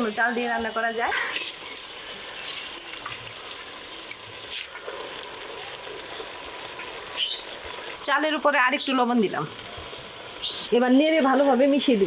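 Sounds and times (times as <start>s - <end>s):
rice pouring into sizzling pot: 0.0s - 12.0s.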